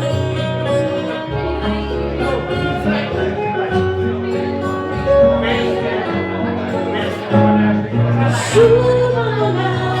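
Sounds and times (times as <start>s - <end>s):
bass line: 0.0s - 10.0s
plucked guitars: 0.0s - 10.0s.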